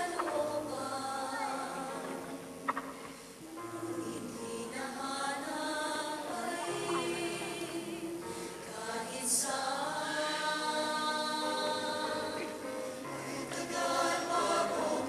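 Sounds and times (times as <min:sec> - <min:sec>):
choir singing held chords: 0:00.0 - 0:02.6, 0:03.4 - 0:15.0.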